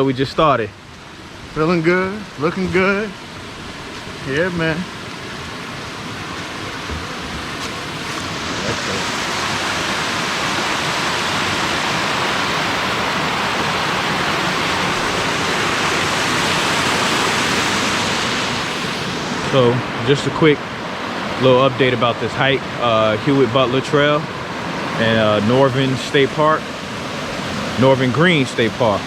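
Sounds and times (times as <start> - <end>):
small waterfall rushing: 0.0 - 29.0.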